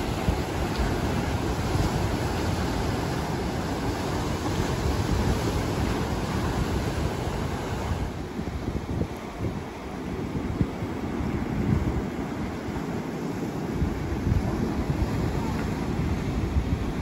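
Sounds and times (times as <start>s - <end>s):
waves breaking and washing in: 0.0s - 17.0s
wind rumbling on microphone: 0.0s - 17.0s.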